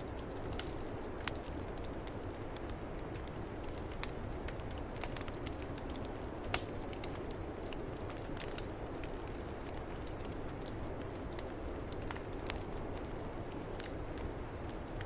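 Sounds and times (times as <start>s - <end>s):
fire popping: 0.0s - 15.0s
wood fire crackling: 0.0s - 15.0s.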